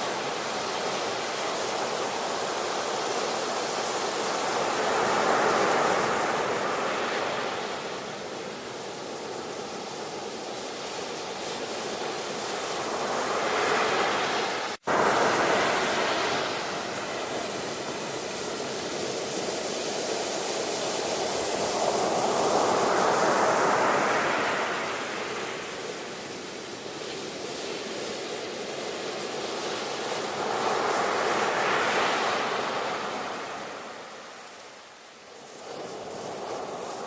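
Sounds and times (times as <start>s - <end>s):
ocean waves on shore: 0.0s - 37.0s.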